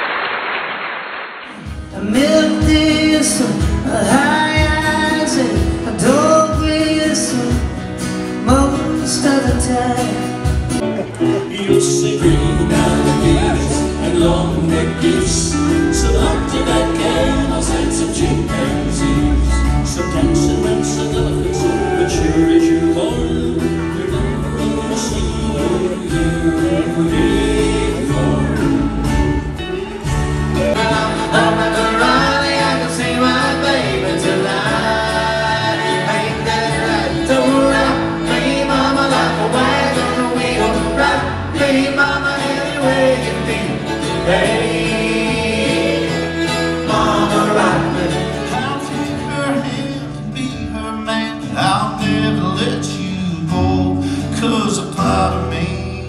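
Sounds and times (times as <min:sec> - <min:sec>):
live country music with singing: 0:01.5 - 0:56.0
string band playing: 0:01.5 - 0:56.0.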